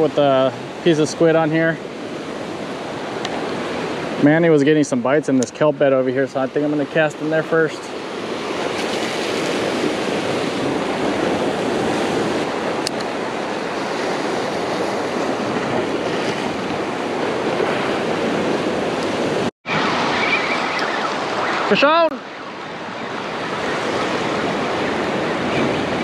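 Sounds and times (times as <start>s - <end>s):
ocean surf washing on coast: 0.0s - 26.0s.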